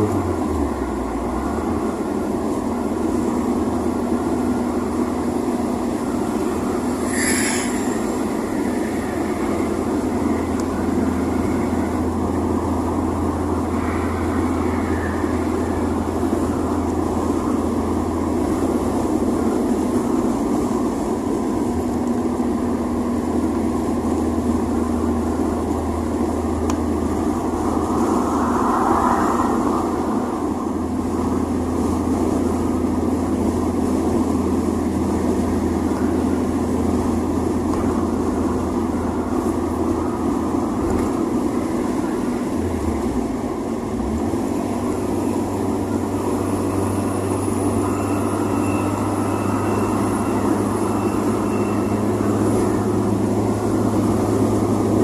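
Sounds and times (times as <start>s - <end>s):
car engine cruising: 0.0s - 55.0s
road noise: 0.0s - 55.0s.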